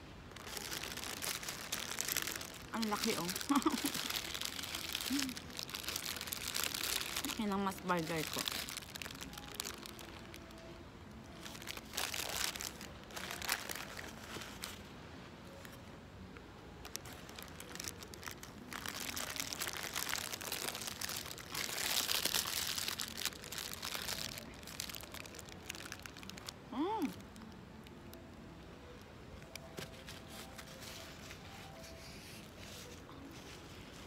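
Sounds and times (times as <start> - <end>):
paper wrapper crinkling: 0.3 - 15.8, 16.7 - 28.2, 28.9 - 34.0.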